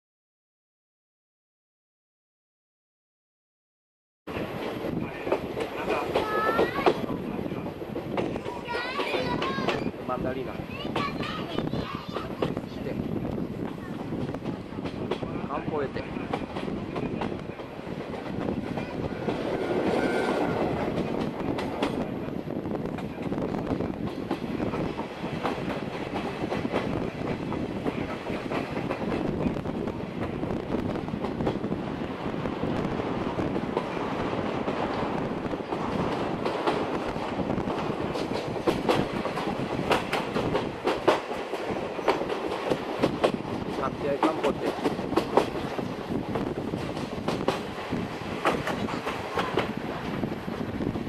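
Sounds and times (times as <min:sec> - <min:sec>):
clickety-clack over rail joints: 0:04.3 - 0:51.0
train wheels rumbling on track: 0:04.3 - 0:51.0.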